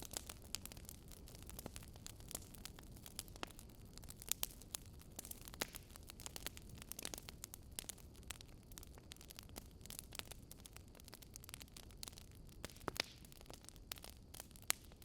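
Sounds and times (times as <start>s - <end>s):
logs crackling and popping: 0.0s - 15.0s
low fire rumble: 0.0s - 15.0s.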